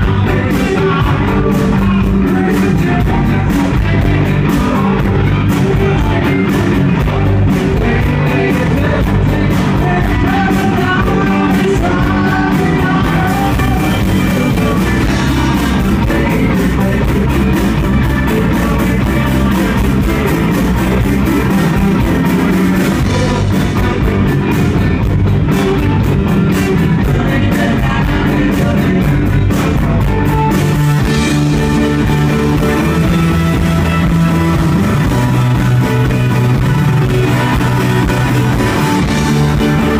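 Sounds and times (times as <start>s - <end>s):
man singing: 0.0s - 24.8s, 25.5s - 34.0s, 35.4s - 39.9s
rock band playing: 0.0s - 39.9s.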